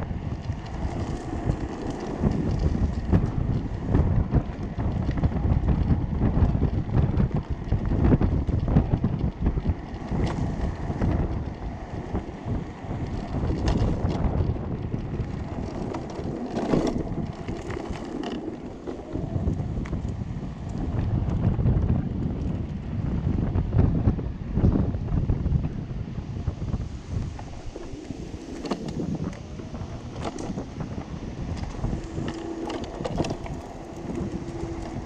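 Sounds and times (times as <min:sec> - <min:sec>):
electric go-kart rumbling: 0:00.0 - 0:35.0
wind buffeting microphone: 0:00.0 - 0:35.0.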